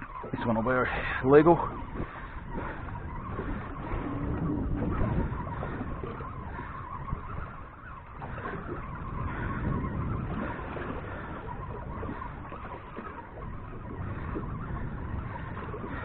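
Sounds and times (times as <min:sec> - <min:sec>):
faint steady whine: 0:00.0 - 0:16.0
wind buffeting microphone: 0:00.0 - 0:16.0.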